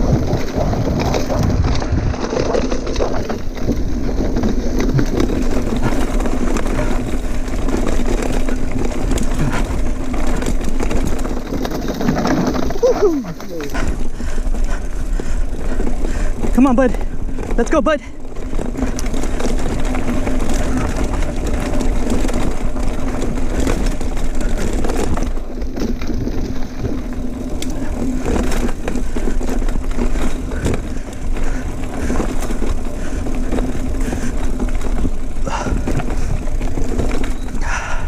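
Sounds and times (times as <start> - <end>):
bike tyre and wind rush: 0.0 - 38.0.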